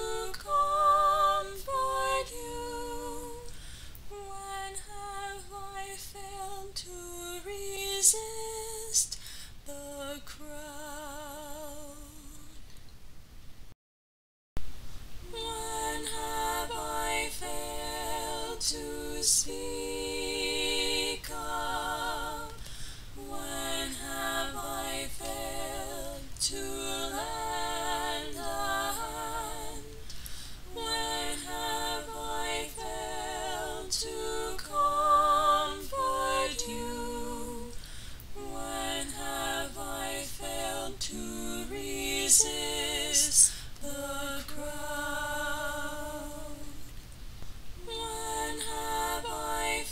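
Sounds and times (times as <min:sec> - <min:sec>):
woman singing unaccompanied: 0:00.0 - 0:03.5, 0:04.1 - 0:12.7, 0:15.2 - 0:22.6, 0:23.2 - 0:37.8, 0:38.4 - 0:46.9.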